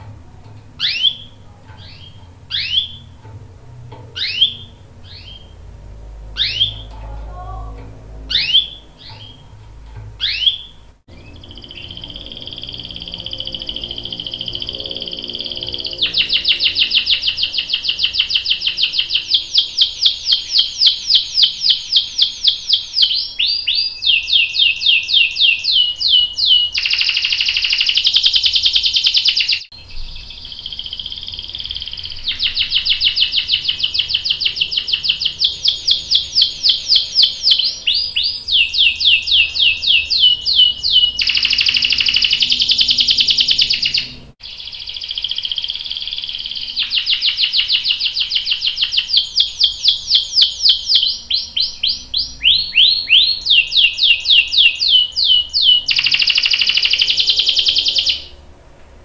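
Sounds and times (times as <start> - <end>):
canary singing: 0.0 - 58.5.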